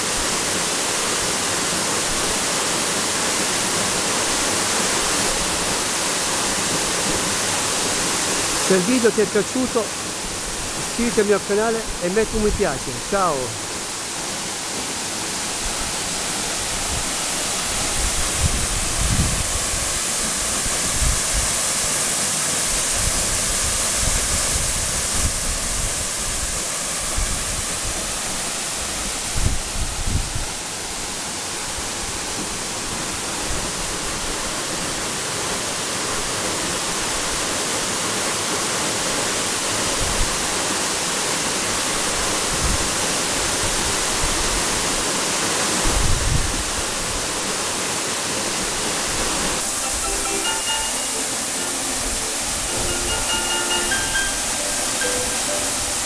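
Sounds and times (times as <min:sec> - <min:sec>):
waterfall crashing onto rock: 0:00.0 - 0:56.0.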